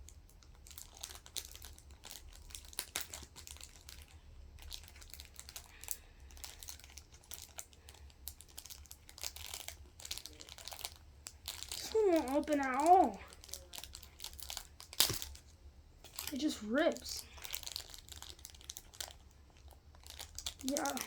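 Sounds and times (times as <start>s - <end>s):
foil wrapper crinkling: 0.0s - 21.0s.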